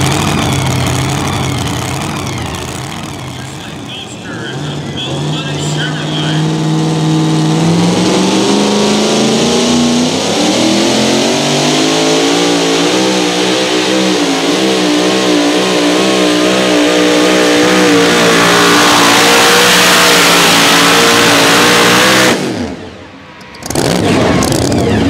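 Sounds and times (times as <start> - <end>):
pulling truck engine at full throttle: 0.0 - 25.0.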